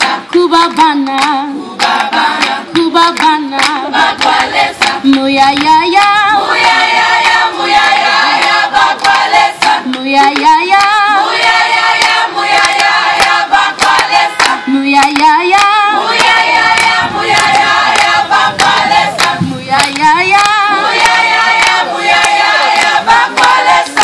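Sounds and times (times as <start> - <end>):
mixed choir singing in harmony: 0.0 - 0.4, 1.5 - 2.8, 3.6 - 24.0
hand claps: 0.0 - 24.0.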